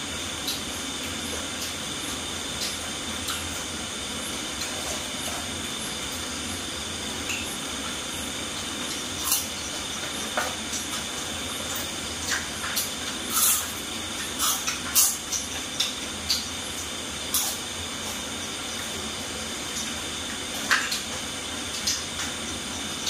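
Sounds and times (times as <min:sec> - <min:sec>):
deep-frying sizzle with pops: 0:00.0 - 0:23.0.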